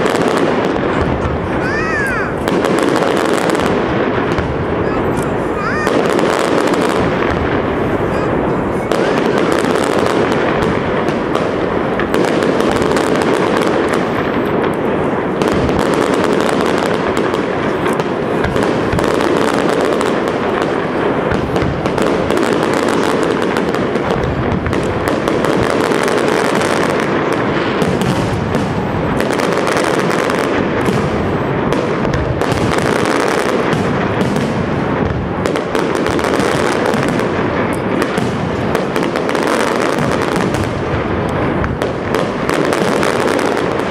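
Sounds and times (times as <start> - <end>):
fireworks bursting and crackling: 0.0 - 43.9.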